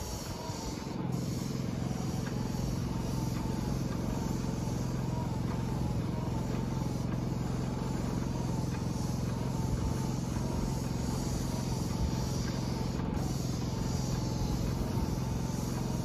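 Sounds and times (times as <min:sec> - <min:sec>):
portable generator engine running: 0:00.0 - 0:16.0.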